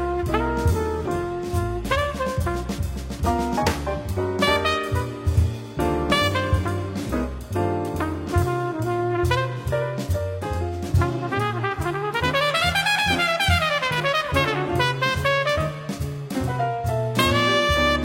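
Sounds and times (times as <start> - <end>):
jazz brass horns: 0.0 - 18.0
walking bass line: 0.0 - 18.0.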